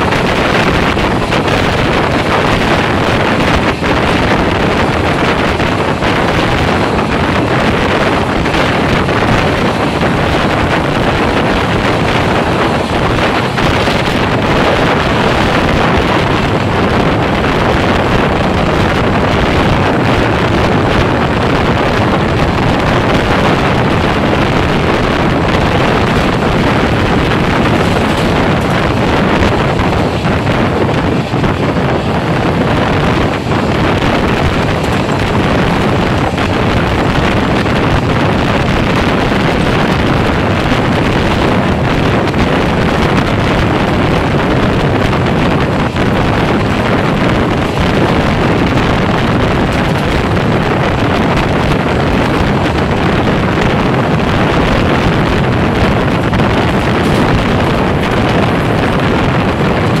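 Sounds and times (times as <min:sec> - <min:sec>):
train wheels on rails: 0:00.0 - 1:00.0
wind on microphone: 0:00.0 - 1:00.0.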